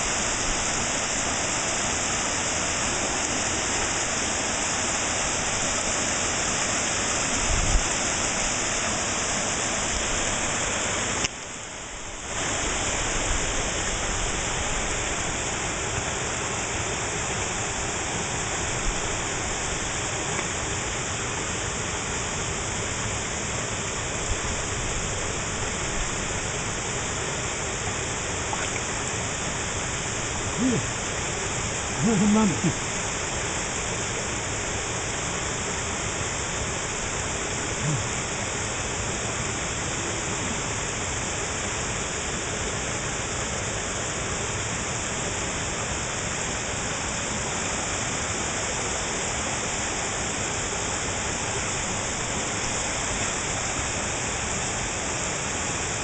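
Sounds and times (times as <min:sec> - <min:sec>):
stream running over stones: 0:00.0 - 0:56.0.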